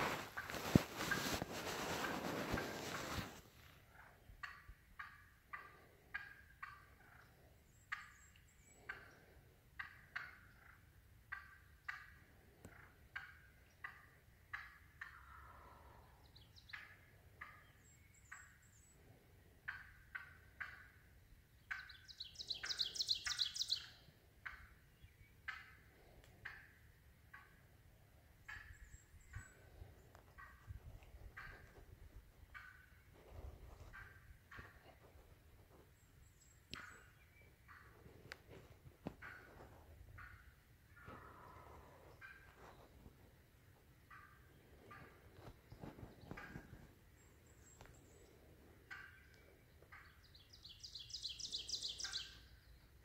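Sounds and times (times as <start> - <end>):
turkey hen calling: 0.0 - 18.6, 19.6 - 27.7, 28.4 - 35.8, 36.7 - 42.9, 44.0 - 46.9, 47.7 - 52.5.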